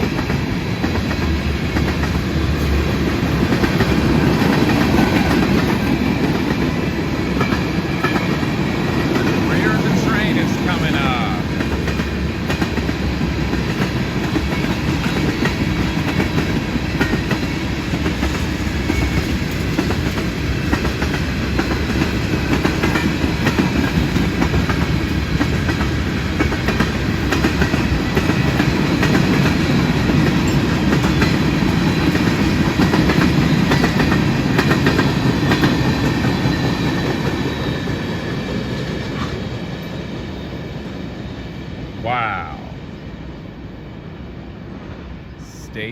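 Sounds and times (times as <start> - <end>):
train wheels clacking on rails: 0.0 - 41.5.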